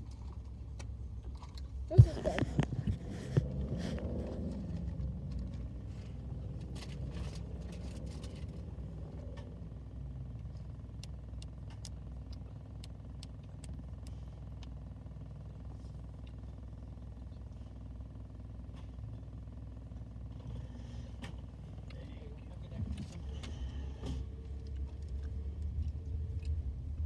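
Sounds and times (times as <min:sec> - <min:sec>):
car rumble inside cabin: 0:00.0 - 0:27.0.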